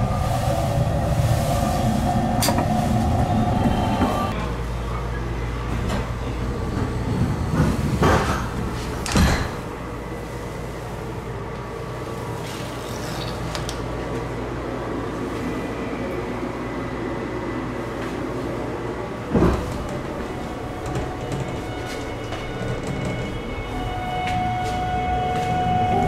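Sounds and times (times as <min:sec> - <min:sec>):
train carriage rumble and hum: 0:00.0 - 0:26.0.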